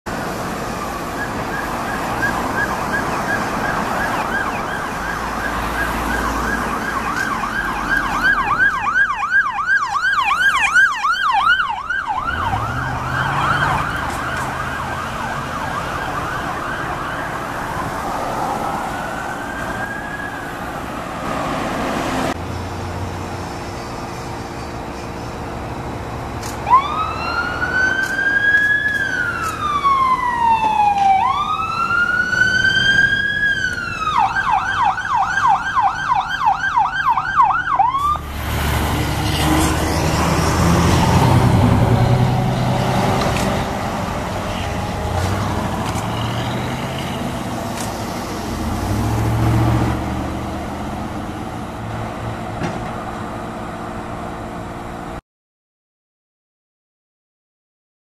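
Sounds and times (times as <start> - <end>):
vehicle engine and road noise: 0.0 - 55.2
fire engine siren: 0.1 - 22.3, 26.4 - 55.0.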